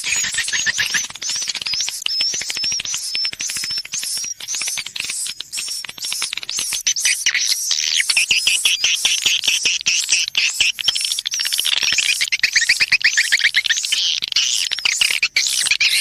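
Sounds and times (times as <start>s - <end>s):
swiftlet calls clicking and chirping: 0.0s - 16.0s.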